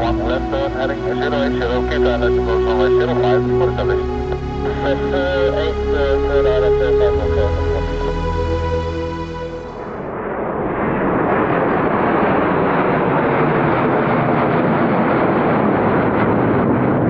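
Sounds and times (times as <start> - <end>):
fighter jets passing overhead: 0.0 - 8.0, 9.6 - 17.0.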